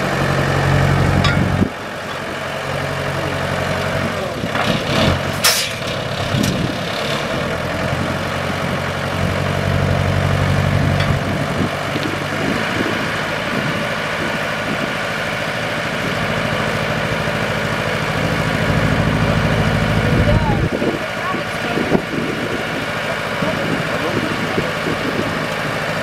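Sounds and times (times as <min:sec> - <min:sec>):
diesel locomotive engine idling: 0:00.0 - 0:26.0.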